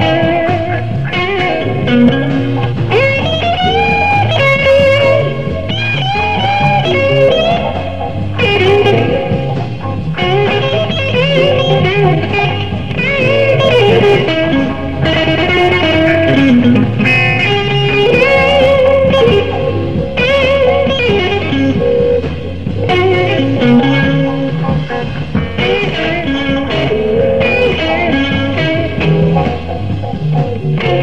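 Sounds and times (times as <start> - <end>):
bass line: 0.0 - 31.0
electric guitar bending notes: 0.0 - 31.0.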